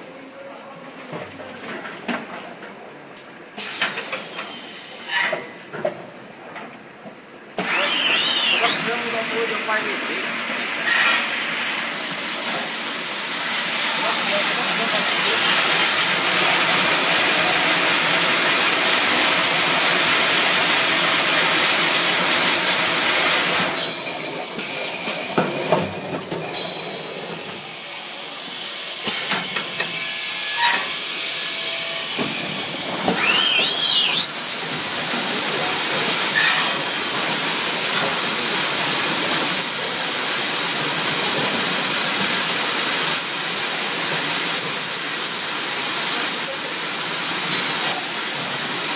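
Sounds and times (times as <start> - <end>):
water spray jets hissing: 7.6 - 25.4, 27.3 - 48.9.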